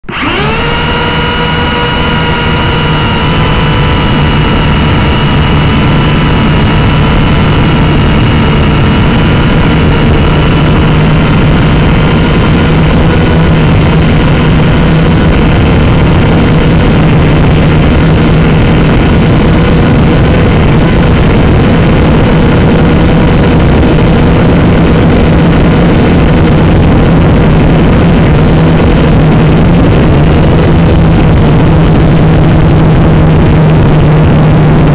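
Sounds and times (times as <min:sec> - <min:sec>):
drone motors whining: 0:00.0 - 0:34.9.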